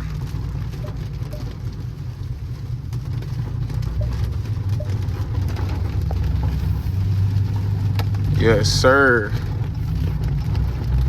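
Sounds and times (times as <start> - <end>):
car engine low rumble: 0.0 - 11.0
rain and wet tyres hiss: 0.0 - 11.0.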